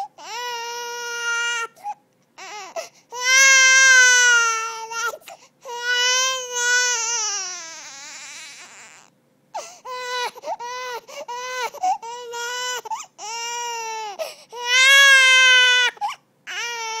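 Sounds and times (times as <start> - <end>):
baby crying: 0.0 - 17.0.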